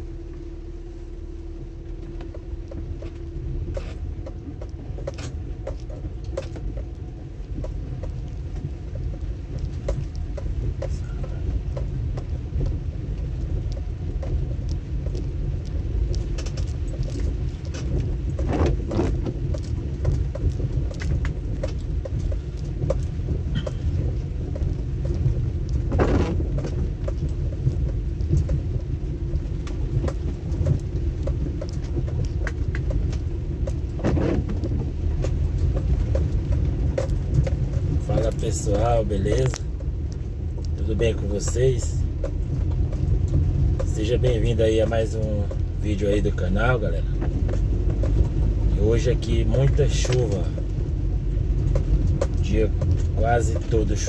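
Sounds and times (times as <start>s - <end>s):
car engine and tyres rumbling: 0.0s - 54.0s
ticks and rattles: 1.1s - 54.0s.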